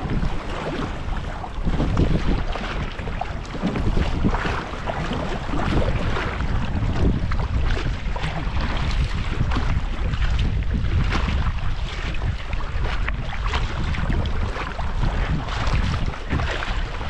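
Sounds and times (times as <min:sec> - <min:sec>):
water splashing against kayak: 0:00.0 - 0:17.0
wind buffeting microphone: 0:00.0 - 0:17.0.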